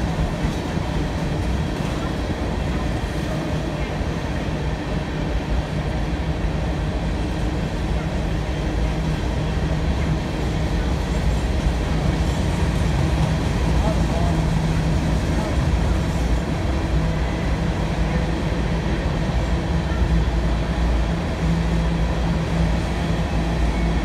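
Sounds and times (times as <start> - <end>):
freight train wheels rumbling on rails: 0.0 - 24.0.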